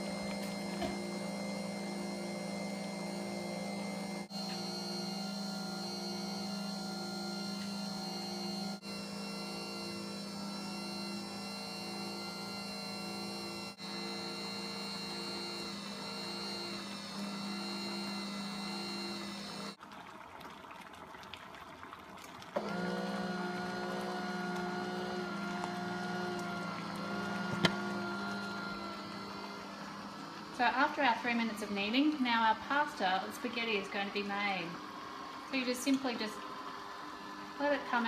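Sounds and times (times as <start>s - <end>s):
pasta maker motor humming: 0.0s - 19.8s, 22.5s - 38.0s.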